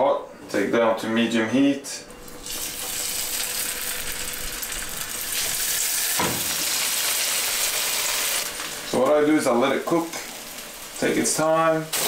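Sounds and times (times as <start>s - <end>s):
meat sizzling in hot oil: 2.3s - 12.0s.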